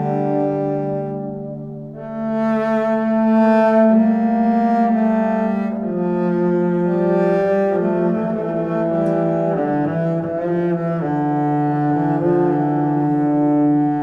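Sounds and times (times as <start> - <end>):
low bowed strings music: 0.0 - 14.0.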